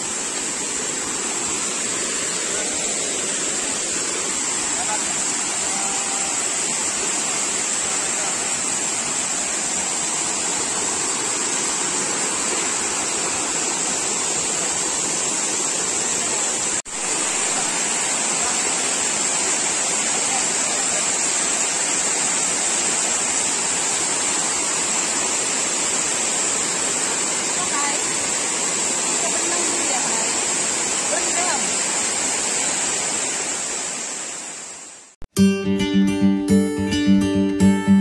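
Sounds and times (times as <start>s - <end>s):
waterfall rushing: 0.0s - 35.2s.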